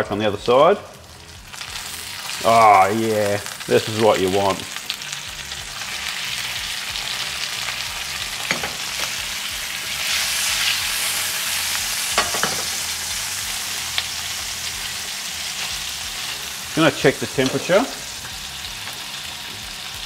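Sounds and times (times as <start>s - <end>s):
chicken sizzling in frying pan: 0.4s - 20.0s.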